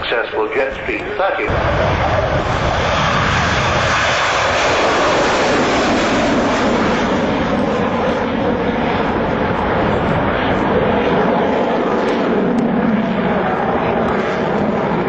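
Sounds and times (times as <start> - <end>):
turboprop engines roaring: 0.0 - 15.0.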